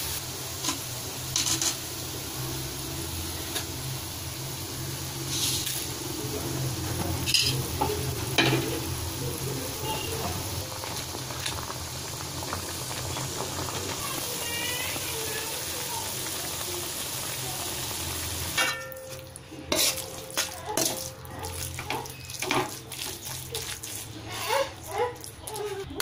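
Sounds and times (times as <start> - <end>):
broth bubbling and sizzling in wok: 0.0 - 26.0.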